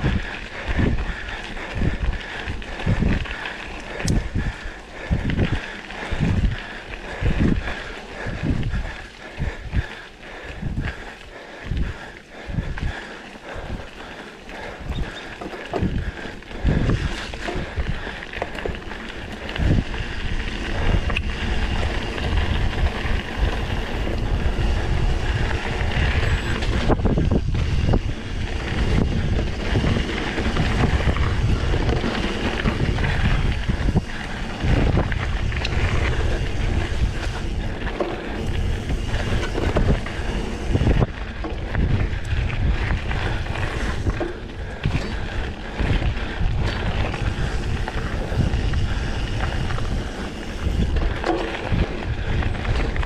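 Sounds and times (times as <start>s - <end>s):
bike tyres rumbling on trail: 0.0s - 53.0s
wind buffeting microphone: 0.0s - 53.0s.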